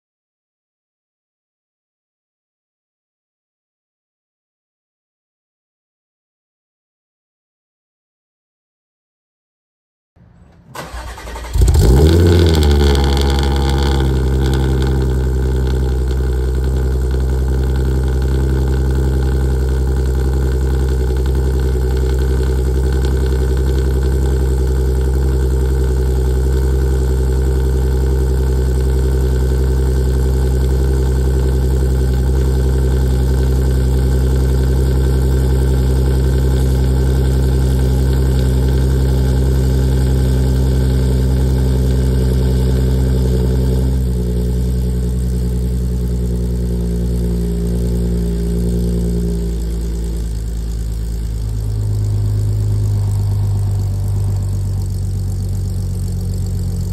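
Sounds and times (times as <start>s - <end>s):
car engine starting and idling: 10.2s - 56.9s.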